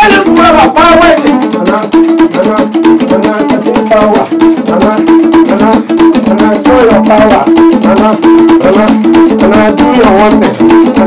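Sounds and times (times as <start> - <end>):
loud music with drums and rattles: 0.0 - 11.0.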